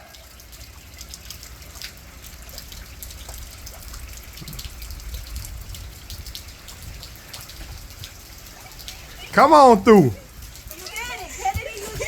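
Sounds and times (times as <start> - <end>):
drips and splashes: 0.0 - 12.0
steady rain: 0.0 - 12.0.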